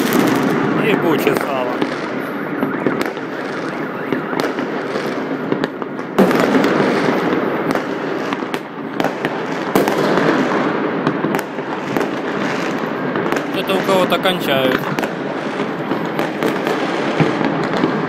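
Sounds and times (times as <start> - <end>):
fireworks and firecrackers bangs: 0.0 - 18.0.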